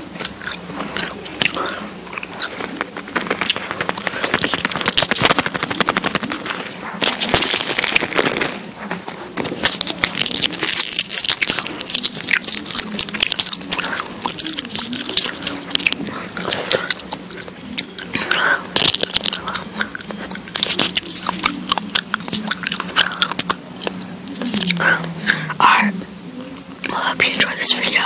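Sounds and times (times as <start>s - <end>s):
gum chewing: 0.0s - 26.0s.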